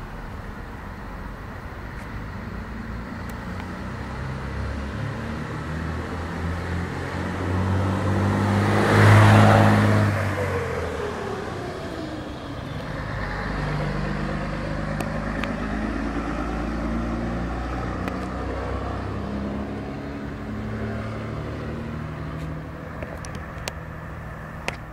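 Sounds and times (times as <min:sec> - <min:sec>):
diesel coach engine droning: 0:00.0 - 0:24.9.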